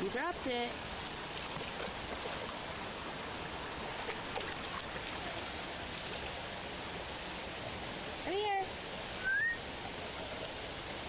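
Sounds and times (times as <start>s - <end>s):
creek water rushing over rock: 0.0s - 11.0s.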